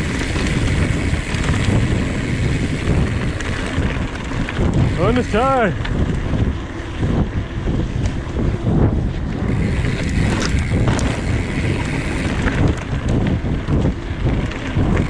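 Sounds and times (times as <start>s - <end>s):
tyres rolling on gravel: 0.0s - 7.0s, 9.2s - 15.0s
wind buffeting microphone: 0.0s - 15.0s.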